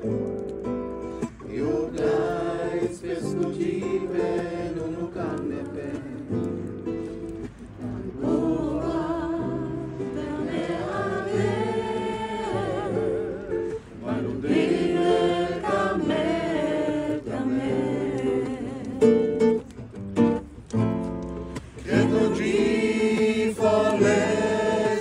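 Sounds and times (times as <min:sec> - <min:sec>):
group singing worship song: 0:01.3 - 0:19.5, 0:21.8 - 0:25.0.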